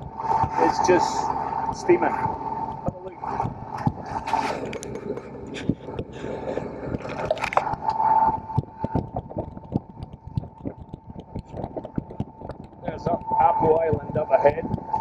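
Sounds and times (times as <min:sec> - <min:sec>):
boat engine running: 0:00.0 - 0:15.0
water splashing along hull: 0:00.0 - 0:15.0.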